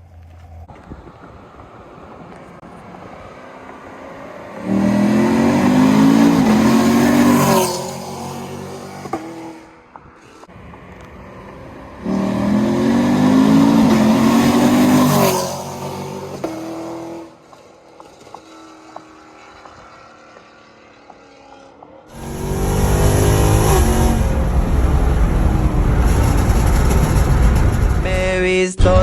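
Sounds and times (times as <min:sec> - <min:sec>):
car engine revving: 0:03.2 - 0:28.3.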